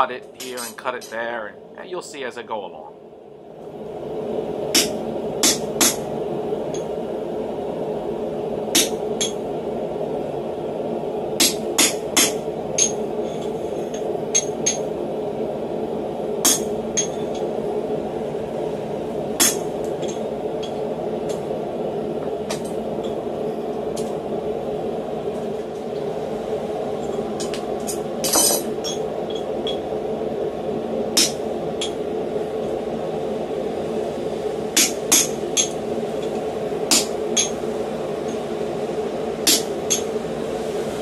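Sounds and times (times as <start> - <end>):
steady rushing noise: 0.0 - 41.0.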